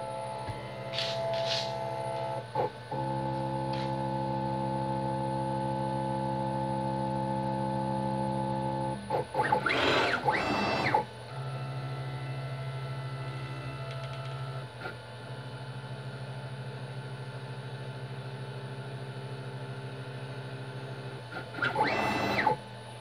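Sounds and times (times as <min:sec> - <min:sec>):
router motors whining: 0:00.0 - 0:15.9, 0:18.3 - 0:22.8.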